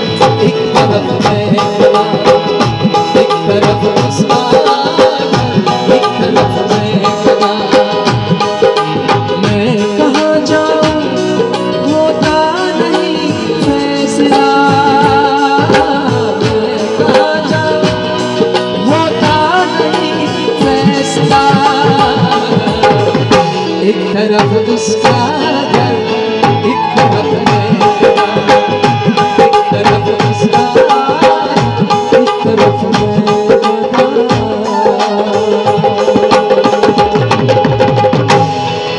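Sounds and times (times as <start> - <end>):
harmonium chords: 0.0 - 38.9
tabla rhythm: 0.0 - 38.9.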